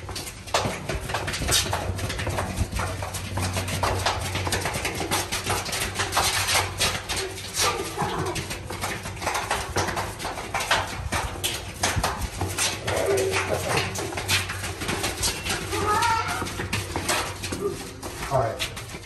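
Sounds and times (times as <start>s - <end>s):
footsteps on gritty concrete: 0.0s - 19.0s.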